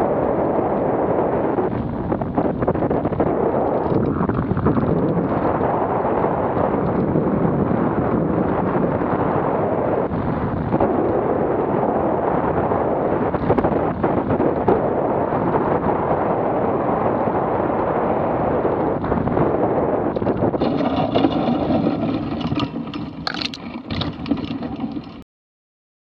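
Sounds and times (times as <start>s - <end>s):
wind buffeting microphone: 0.0s - 25.2s.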